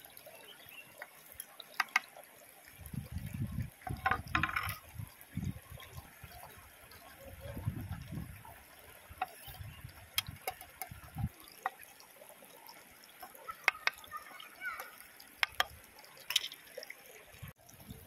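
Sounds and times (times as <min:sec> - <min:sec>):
shallow stream trickling: 0:00.0 - 0:18.0.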